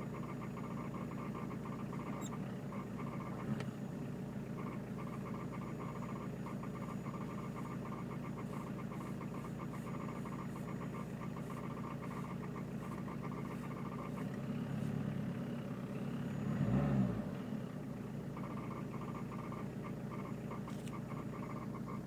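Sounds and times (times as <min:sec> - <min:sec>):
diesel engine idling: 0:00.0 - 0:22.0
fast pulsing engine chatter: 0:00.0 - 0:22.0.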